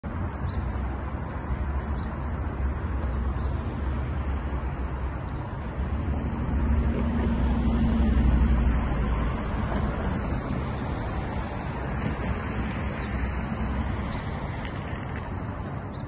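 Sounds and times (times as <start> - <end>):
city street traffic rumble: 0.0 - 16.0
vehicle passing: 0.1 - 16.0.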